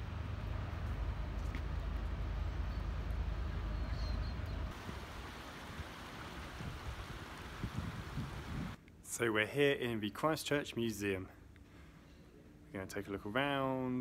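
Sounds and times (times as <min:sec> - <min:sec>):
low city rumble: 0:00.0 - 0:14.0.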